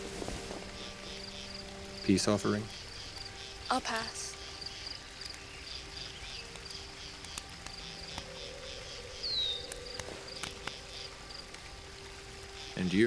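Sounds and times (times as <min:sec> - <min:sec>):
campfire crackling: 0:00.0 - 0:13.0
crickets chirping: 0:00.0 - 0:13.0.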